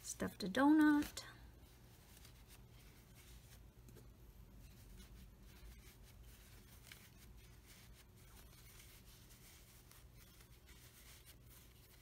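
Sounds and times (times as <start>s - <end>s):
faint handling rustles: 0.1s - 12.0s.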